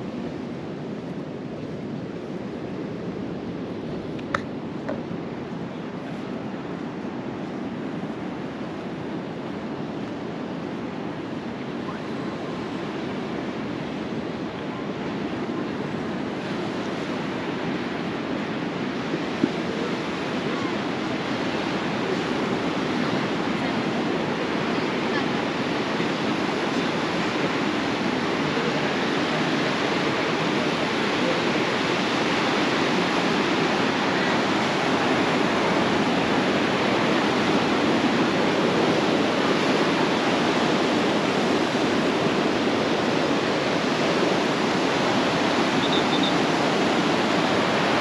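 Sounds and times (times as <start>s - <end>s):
rushing water: 0.0s - 48.0s.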